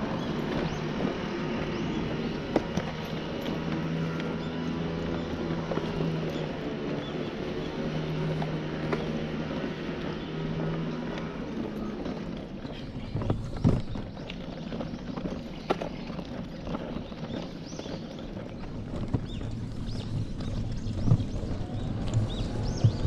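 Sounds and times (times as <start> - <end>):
stroller knocks and rattles: 0.0 - 23.0
stroller wheels rolling on pavement: 0.0 - 23.0.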